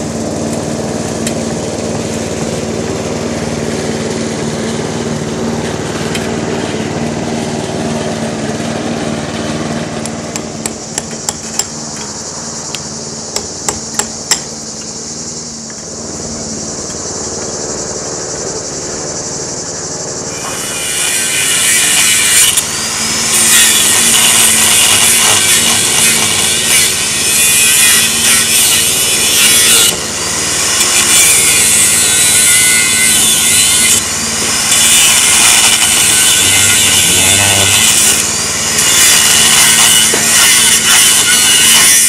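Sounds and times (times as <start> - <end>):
power saw cutting timber: 0.0 - 42.0.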